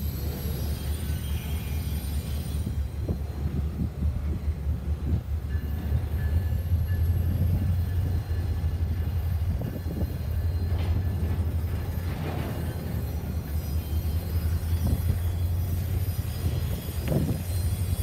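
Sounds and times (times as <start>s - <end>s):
railcars clanking: 0.0s - 18.0s
train wheels rumbling on rail: 0.0s - 18.0s.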